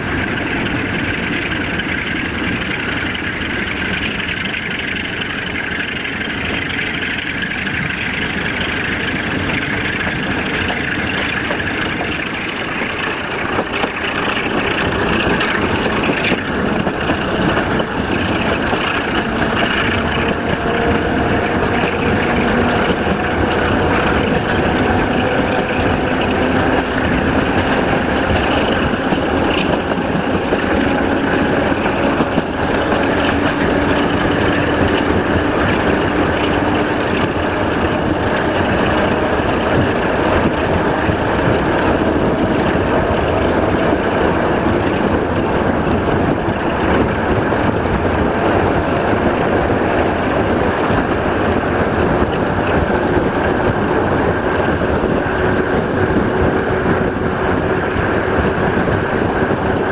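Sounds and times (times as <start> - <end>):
diesel locomotive engine working hard: 0.0 - 59.9
train rolling along track: 0.0 - 59.9.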